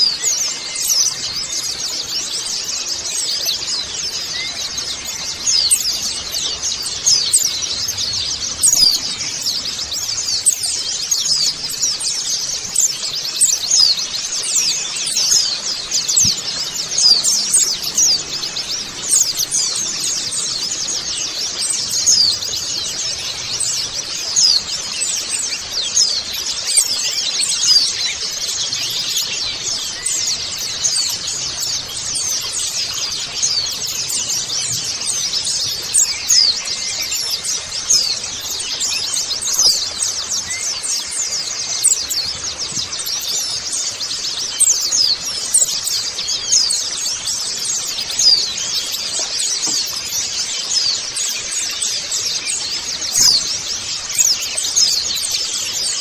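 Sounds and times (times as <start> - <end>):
birds twittering: 0.0 - 56.0.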